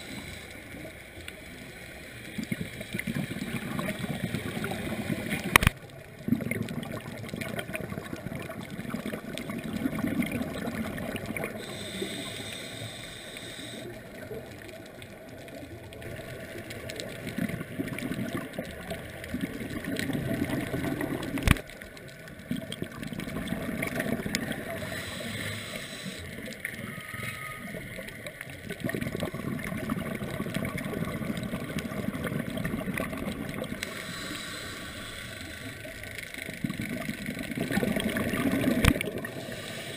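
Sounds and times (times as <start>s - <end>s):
underwater bubbling and gurgling: 0.0s - 39.9s.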